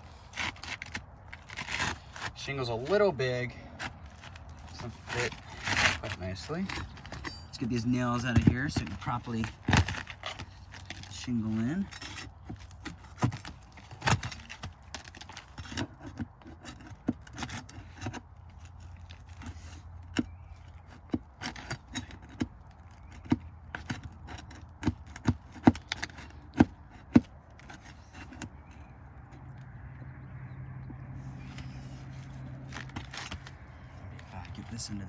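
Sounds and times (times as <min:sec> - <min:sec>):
metal tool scraping roofing nails: 0:00.0 - 0:29.5, 0:31.2 - 0:35.0.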